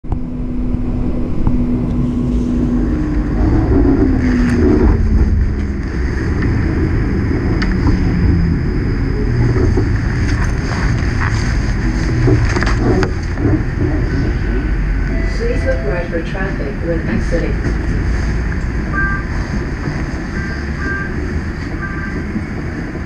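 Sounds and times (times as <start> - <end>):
low motor whine: 0.0 - 20.2
streetcar rumbling on rails: 0.0 - 23.0.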